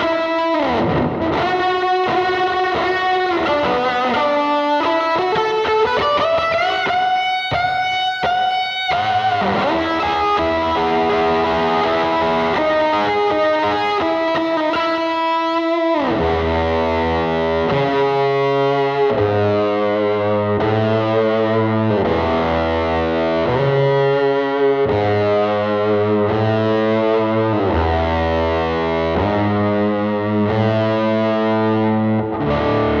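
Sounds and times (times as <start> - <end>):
distorted electric guitar chords: 0.0 - 33.0.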